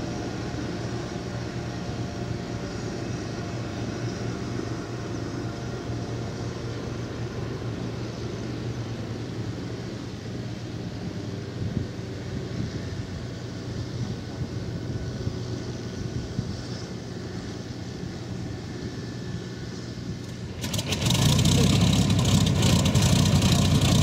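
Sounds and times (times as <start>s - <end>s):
low engine hum: 0.0s - 24.0s
rough piston aircraft engine: 0.0s - 24.0s.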